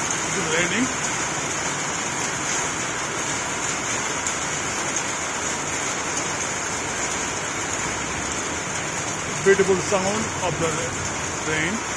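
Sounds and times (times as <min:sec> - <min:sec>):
rain on a tin roof: 0:00.0 - 0:11.9.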